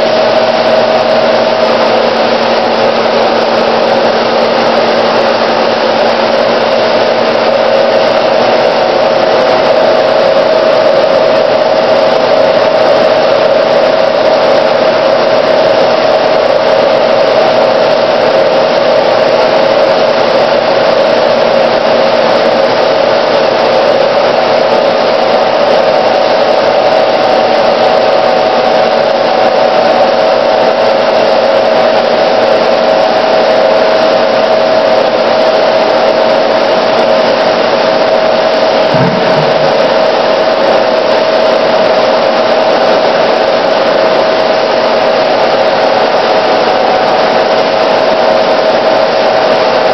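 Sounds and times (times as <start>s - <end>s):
machinery droning with whine: 0.0s - 49.9s.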